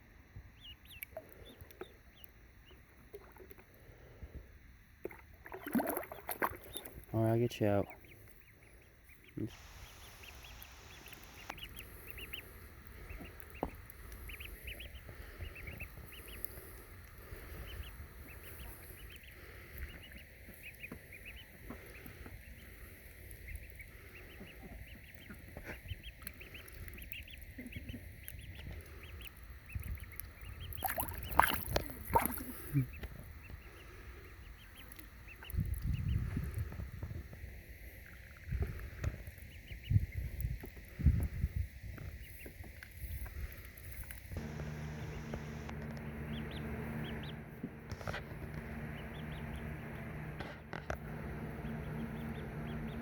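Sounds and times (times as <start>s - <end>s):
ducklings peeping: 0.4s - 3.6s, 5.1s - 53.0s.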